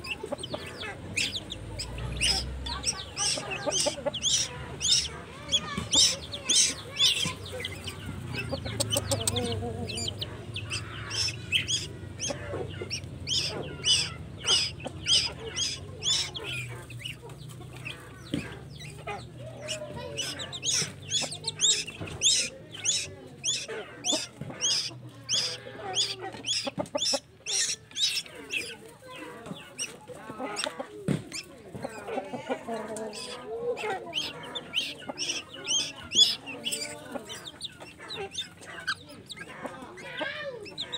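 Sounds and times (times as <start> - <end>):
bird chick cheeping: 0.0 - 40.9.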